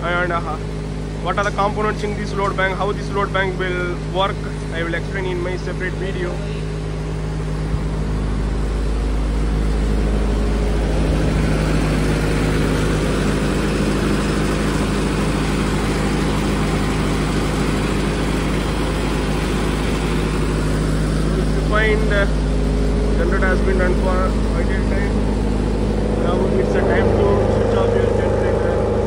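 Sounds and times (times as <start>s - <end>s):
diesel generator engine drone: 0.0s - 29.0s.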